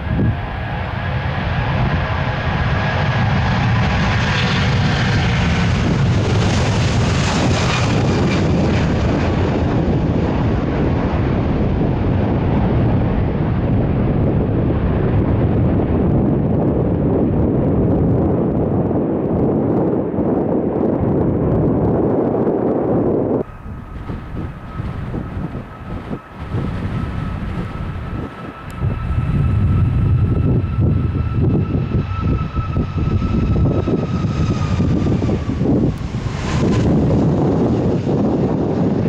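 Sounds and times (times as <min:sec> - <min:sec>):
jet airliner roaring past: 0:00.0 - 0:39.0
wind buffeting microphone: 0:00.0 - 0:39.0.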